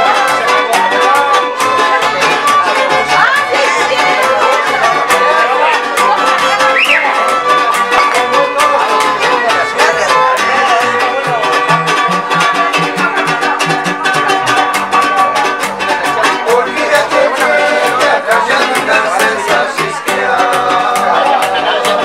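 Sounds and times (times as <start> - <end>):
plucked double bass: 0.0 - 22.0
strummed guitar: 0.0 - 22.0
violins bowing a melody: 0.0 - 22.0.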